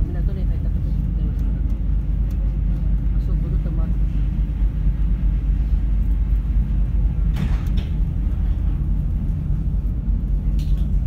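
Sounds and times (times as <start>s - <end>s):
ferry engines rumbling: 0.0s - 11.0s.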